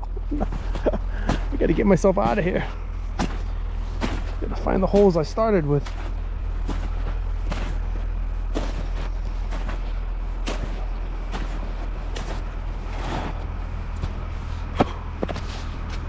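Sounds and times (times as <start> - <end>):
low rumble: 0.0 - 16.0
footsteps crunching in snow: 0.2 - 16.0.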